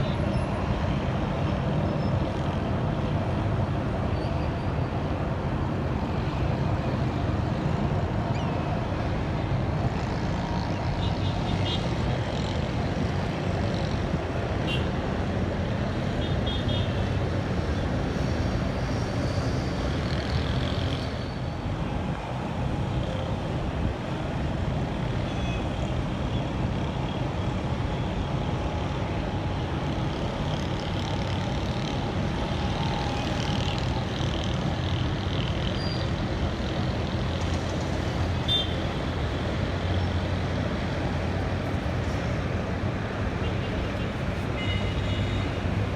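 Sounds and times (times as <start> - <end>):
road traffic rumble: 0.0 - 45.9.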